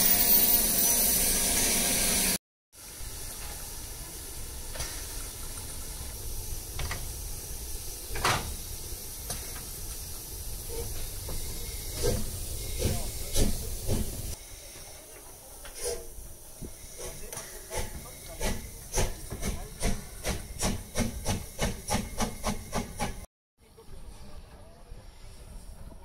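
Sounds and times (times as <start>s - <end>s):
steam locomotive hissing: 0.0s - 23.3s.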